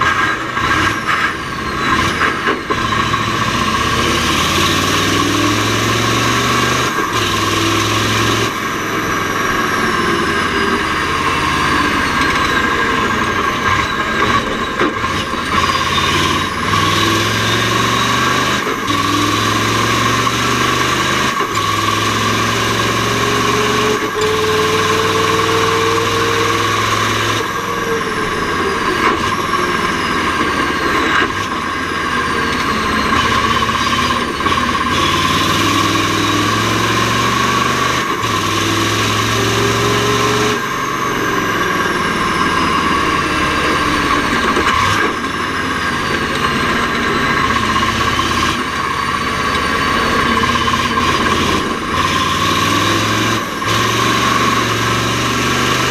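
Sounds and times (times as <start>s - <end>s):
diesel truck engine under load: 0.0s - 55.9s.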